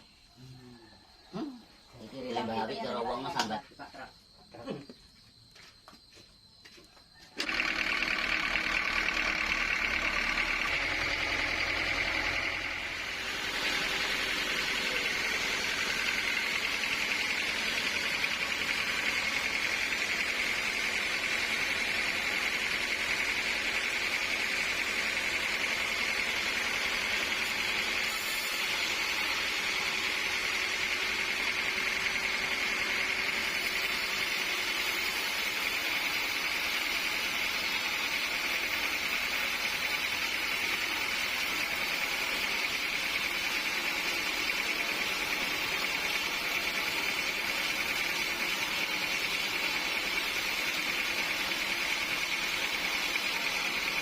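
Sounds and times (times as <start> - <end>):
engine-like hum: 6.7 - 54.0
sawmill machinery whining: 7.3 - 54.0.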